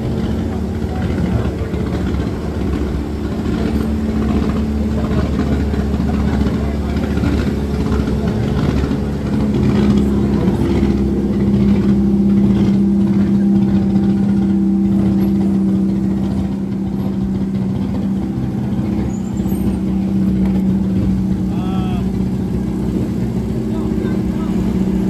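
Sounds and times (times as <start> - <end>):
car engine running steadily: 0.0 - 25.0.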